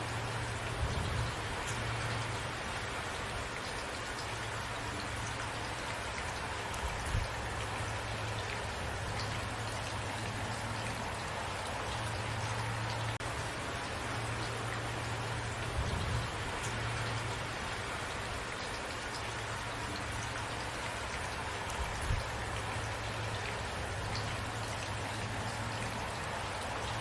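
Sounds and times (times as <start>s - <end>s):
raindrops ticking: 0.0s - 27.0s
steady rain hiss: 0.0s - 27.0s.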